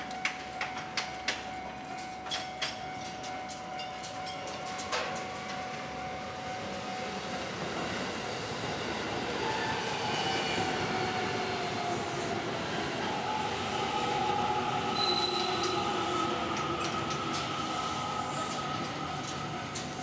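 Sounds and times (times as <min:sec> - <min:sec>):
electric train rumbling on tracks: 0:00.0 - 0:20.0.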